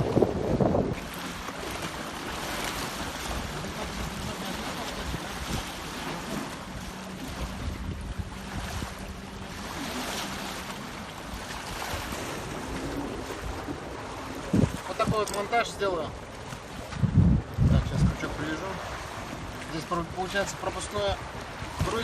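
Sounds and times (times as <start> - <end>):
wind buffeting microphone: 0.0 - 1.6, 2.2 - 20.2, 20.8 - 22.0
sea waves: 0.0 - 22.0.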